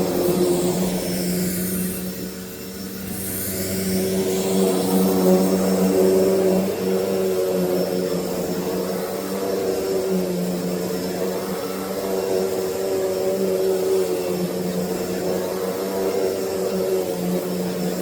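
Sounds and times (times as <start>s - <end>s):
vacuum cleaner motor humming: 0.0s - 18.0s.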